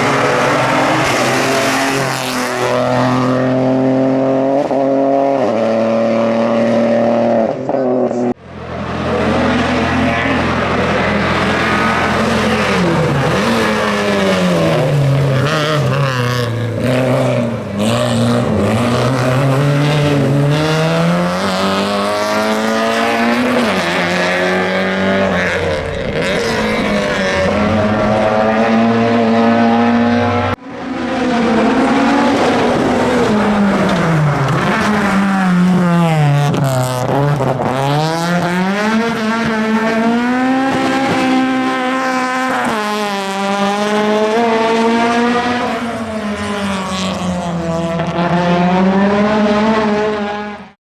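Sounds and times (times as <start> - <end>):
race car engine revving: 0.0 - 50.8.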